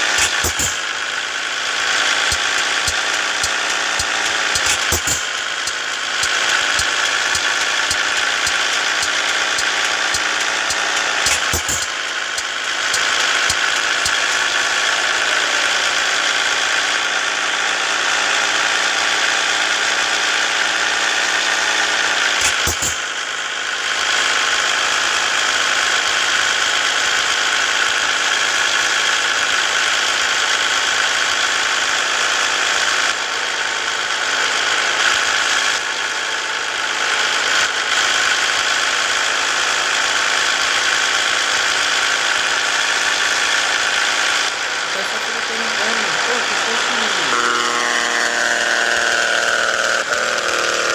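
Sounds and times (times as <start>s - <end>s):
truck diesel engine under load: 0.0s - 50.9s.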